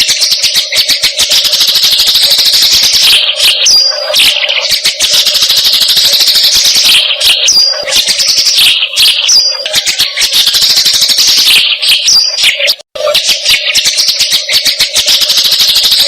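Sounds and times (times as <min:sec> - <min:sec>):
rasping bird chatter: 0:00.0 - 0:16.0.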